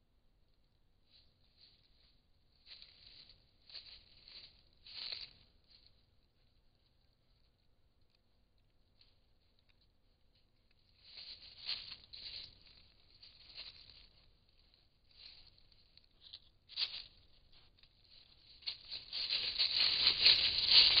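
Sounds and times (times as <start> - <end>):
deer walking in dry leaves: 1.1 - 6.7, 8.9 - 21.0.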